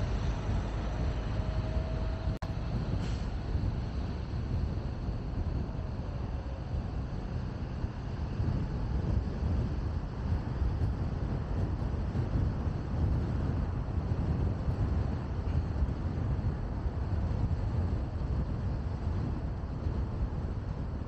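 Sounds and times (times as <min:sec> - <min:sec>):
car road rumble: 0:00.0 - 0:21.0.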